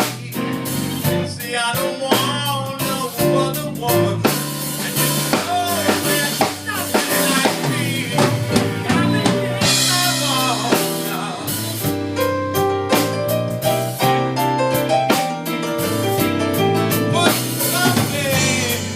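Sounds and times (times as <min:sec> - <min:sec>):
band music: 0:00.0 - 0:18.9
drum kit beat: 0:00.0 - 0:18.9.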